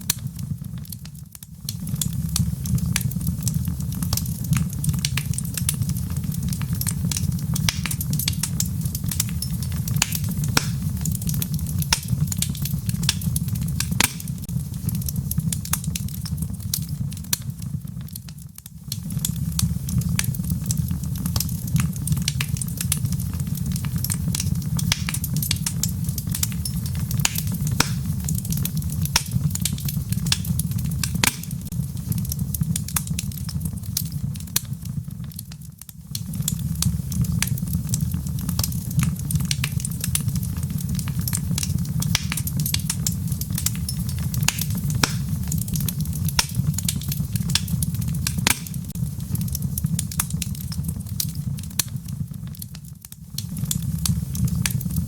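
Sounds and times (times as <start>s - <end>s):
rain patter: 0.0s - 55.0s
wood fire crackling and popping: 0.0s - 55.0s.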